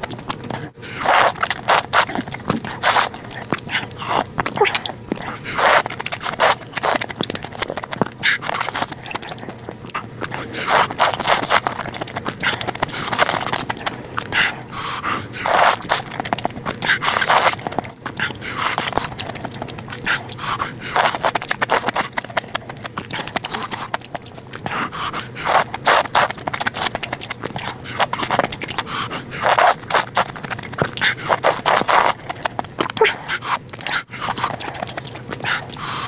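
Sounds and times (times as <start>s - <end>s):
mouth clicks and smacks: 0.0s - 36.0s
slurping soup: 0.0s - 36.0s
wet chewing: 0.0s - 36.0s.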